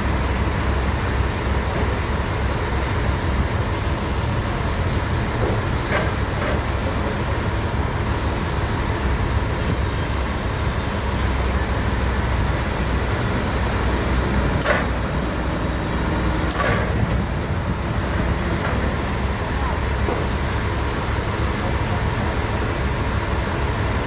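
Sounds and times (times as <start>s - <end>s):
sawmill machinery rumbling: 0.0s - 24.0s.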